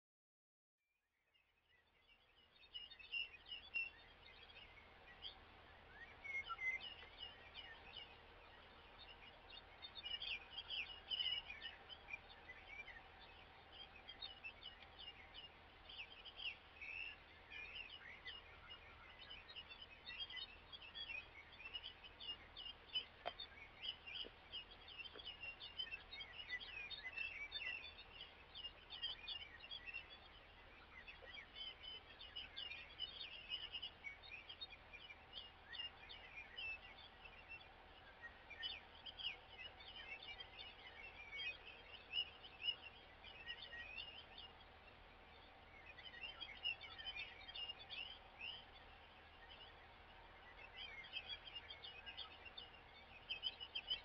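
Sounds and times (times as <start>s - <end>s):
songbirds chirping and trilling: 1.1s - 54.0s
low steady hum: 1.4s - 54.0s.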